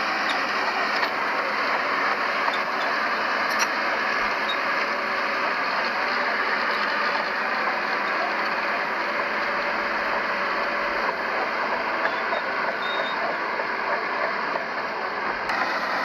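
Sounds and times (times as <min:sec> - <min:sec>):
earthmoving machinery diesel engine: 0:00.0 - 0:16.0.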